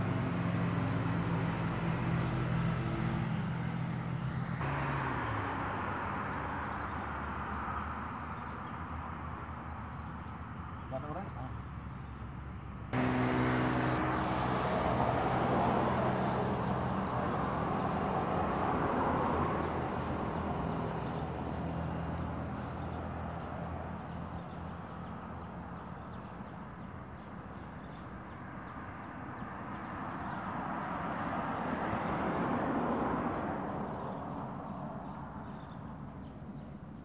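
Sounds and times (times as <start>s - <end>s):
vehicle approaching: 0.0s - 36.8s
low engine hum: 0.0s - 37.0s
vehicle passing on highway: 0.0s - 37.0s.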